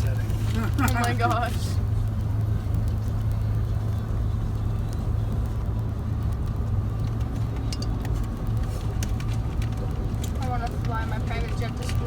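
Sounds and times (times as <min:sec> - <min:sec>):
car interior road drone: 0:00.0 - 0:12.0.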